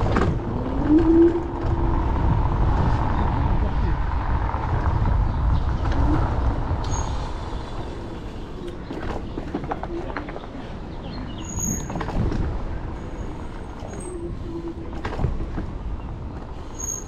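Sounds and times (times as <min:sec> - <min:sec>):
wind and road rumble: 0:00.0 - 0:17.0.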